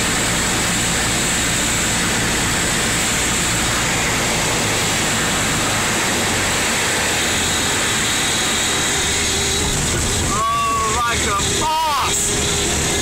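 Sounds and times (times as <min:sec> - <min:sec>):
airflow rushing: 0:00.0 - 0:13.0
plane engine drone: 0:00.0 - 0:13.0.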